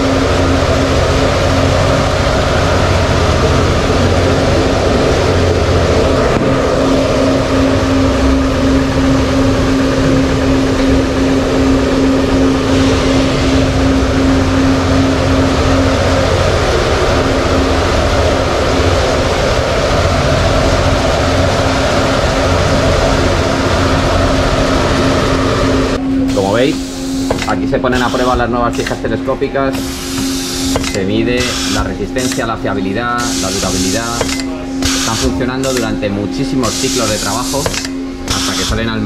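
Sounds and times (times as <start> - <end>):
constant hum: 0.0 - 39.0
test machines running: 0.0 - 39.0.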